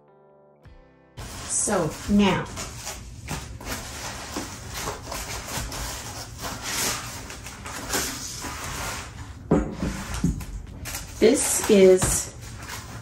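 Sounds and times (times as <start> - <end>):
foam and cardboard rustling: 1.2 - 13.0.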